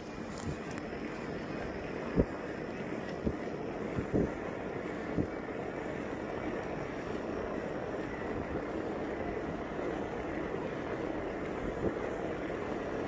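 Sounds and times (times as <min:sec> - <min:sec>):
tyre noise on asphalt: 0:00.0 - 0:13.0
wind on microphone: 0:00.0 - 0:13.0.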